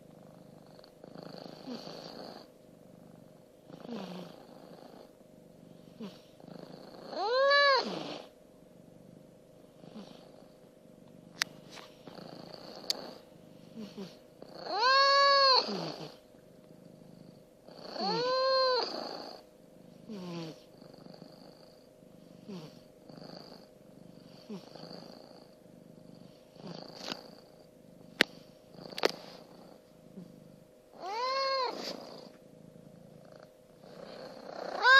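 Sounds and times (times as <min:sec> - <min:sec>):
cat purring loudly: 0:00.0 - 0:34.9
cat snoring faintly: 0:00.0 - 0:34.9.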